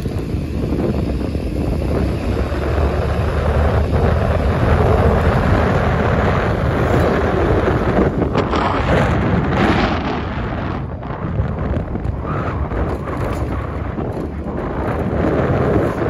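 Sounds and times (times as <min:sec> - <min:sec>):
vehicle running on road: 0:00.0 - 0:16.0
wind buffeting microphone: 0:00.0 - 0:16.0.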